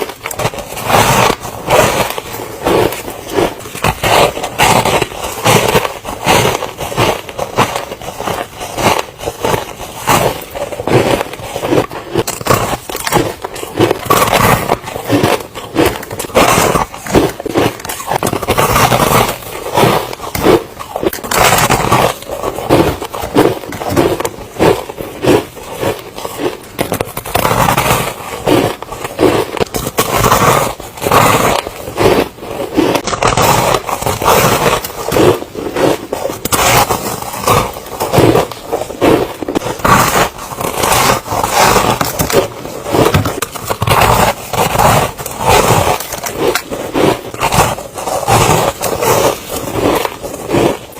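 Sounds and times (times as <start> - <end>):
ice being chewed: 0.0 - 50.9.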